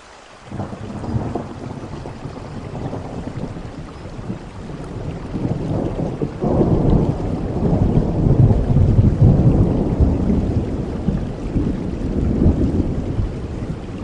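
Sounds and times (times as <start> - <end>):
steady rain: 0.0 - 14.0
thunder rumbling: 0.5 - 14.0.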